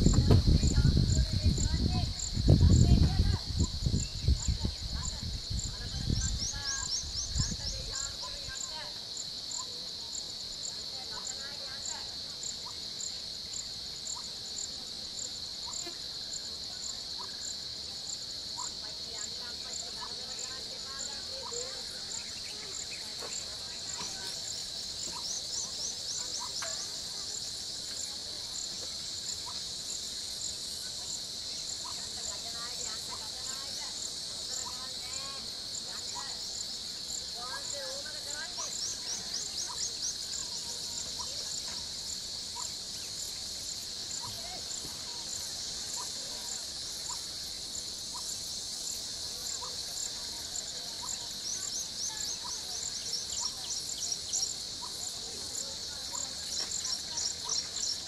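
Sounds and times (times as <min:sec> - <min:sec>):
insects chorus: 0:00.0 - 0:58.0
faint chirps: 0:02.2 - 0:58.0.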